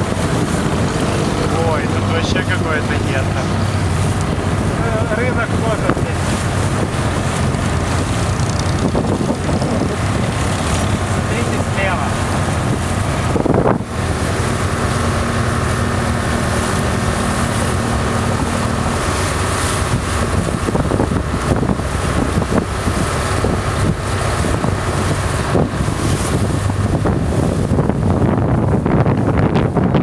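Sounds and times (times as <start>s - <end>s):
boat engine humming: 0.0s - 30.0s
wind buffeting microphone: 0.0s - 30.0s.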